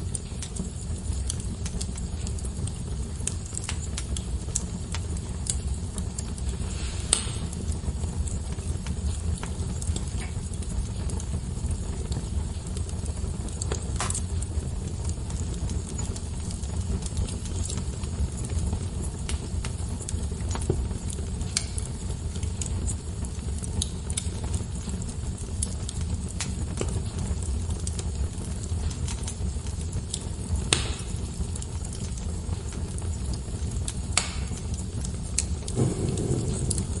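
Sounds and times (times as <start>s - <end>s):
fire popping: 0.0s - 37.0s
fire rumbling and crackling: 0.0s - 37.0s.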